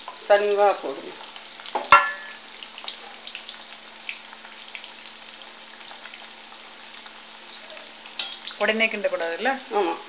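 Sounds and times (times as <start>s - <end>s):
dough balls deep-frying in oil: 0.0s - 10.0s.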